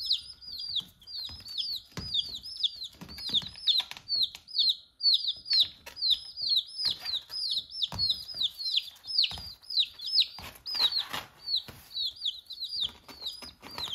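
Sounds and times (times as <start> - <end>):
chicks peeping: 0.0 - 13.9.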